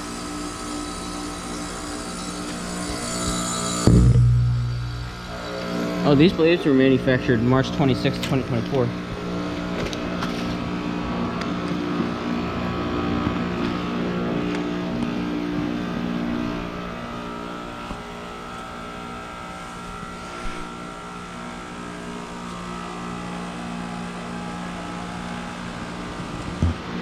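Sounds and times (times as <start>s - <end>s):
heat pump compressor hum: 0.0s - 27.0s
fan airflow: 2.5s - 27.0s.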